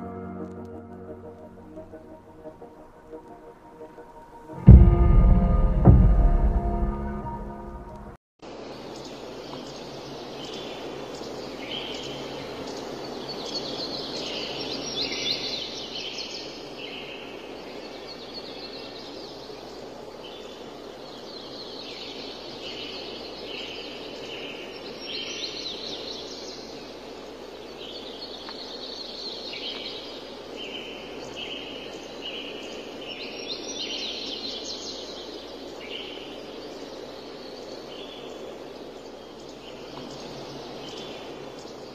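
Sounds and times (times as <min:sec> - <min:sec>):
steady background hiss: 0:00.0 - 0:04.7, 0:07.7 - 0:41.9.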